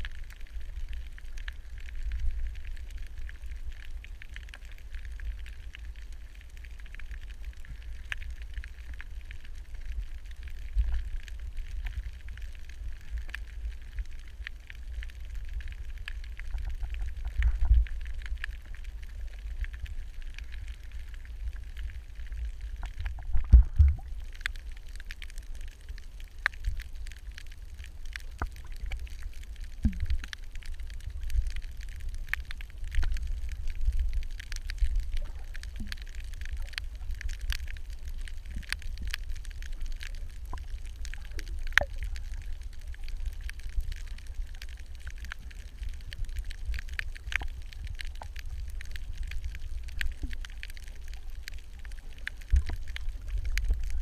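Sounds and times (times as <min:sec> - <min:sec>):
crackle of clicks: 0:00.0 - 0:54.0
underwater moving water rumble: 0:00.0 - 0:54.0.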